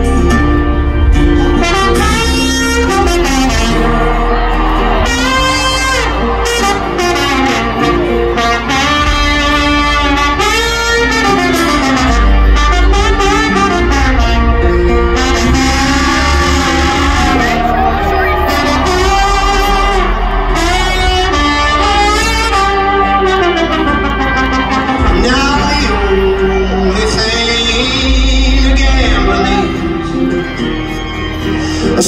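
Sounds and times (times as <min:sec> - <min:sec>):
rock band with horn section: 0:00.0 - 0:32.0.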